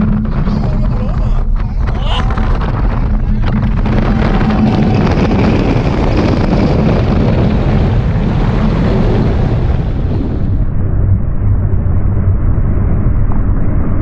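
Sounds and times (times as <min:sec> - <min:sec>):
roller coaster train rumble: 0:00.0 - 0:11.2
wind buffeting microphone: 0:00.0 - 0:14.0.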